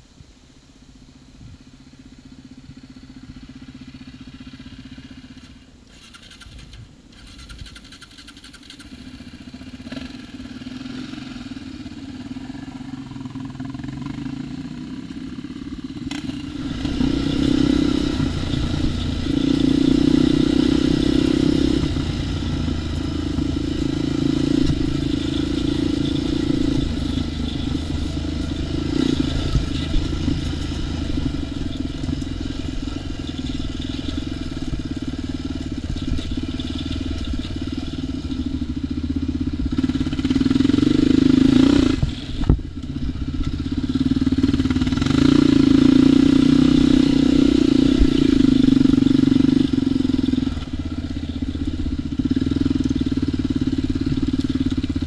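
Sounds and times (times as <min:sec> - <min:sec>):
atv engine revving: 0:02.1 - 0:55.0.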